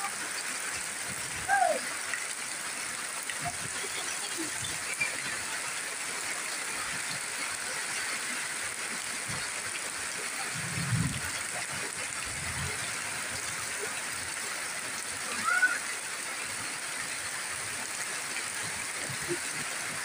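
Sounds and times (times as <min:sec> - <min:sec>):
rain on leaves: 0:00.0 - 0:20.0.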